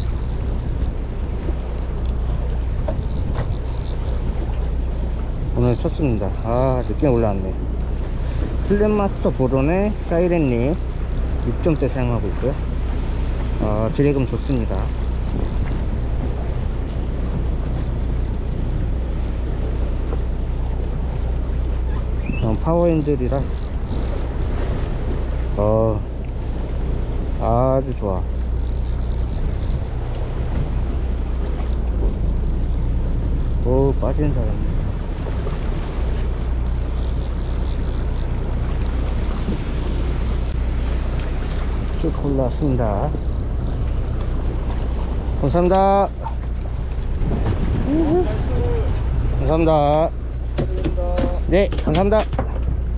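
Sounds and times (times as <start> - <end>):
sea noise: 0.0 - 50.8
boat engine drone: 0.0 - 52.9
wind: 0.0 - 52.9.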